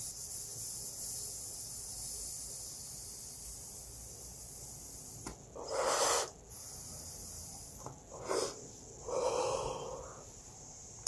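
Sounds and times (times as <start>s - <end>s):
person inhaling and exhaling vapour: 0.3s - 10.4s.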